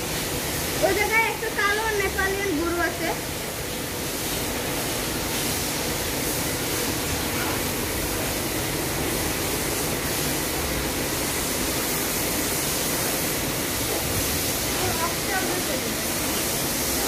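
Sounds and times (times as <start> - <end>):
ventilation fans rushing air: 0.0 - 17.0.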